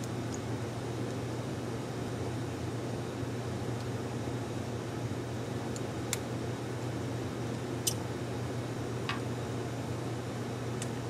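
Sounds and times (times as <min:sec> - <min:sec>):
room hum and hiss: 0:00.0 - 0:11.0.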